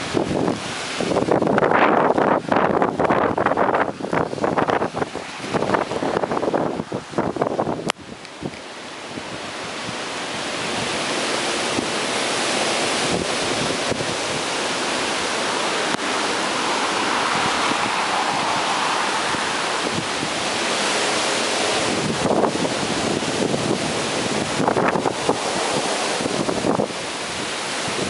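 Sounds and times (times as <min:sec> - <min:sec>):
heavy rain: 0:00.0 - 0:28.0
strong wind: 0:00.0 - 0:28.0
wind buffeting microphone: 0:00.0 - 0:28.0.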